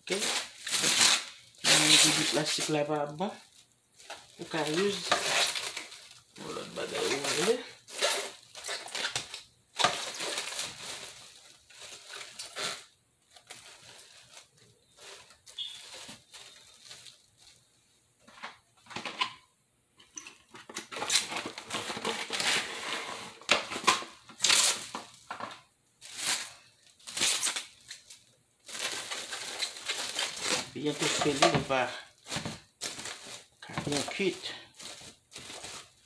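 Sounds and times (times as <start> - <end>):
plastic wrap crinkling: 0.0 - 18.6, 20.8 - 36.0.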